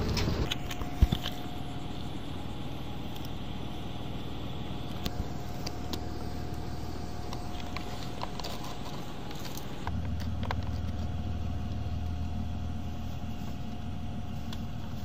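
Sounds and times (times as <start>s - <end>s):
faint steady hum: 0.0s - 15.0s
outdoor rumble and hiss: 0.0s - 15.0s.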